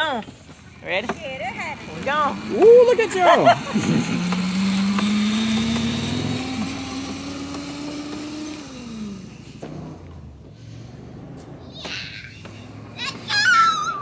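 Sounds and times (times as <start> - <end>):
electric ride-on bike motor whine: 0.0 - 14.0.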